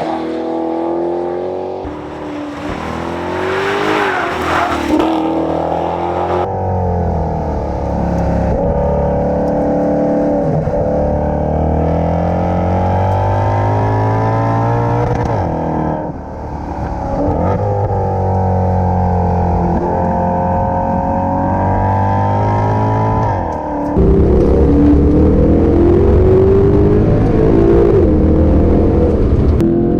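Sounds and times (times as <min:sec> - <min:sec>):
sports car engine accelerating: 0:00.0 - 0:29.9.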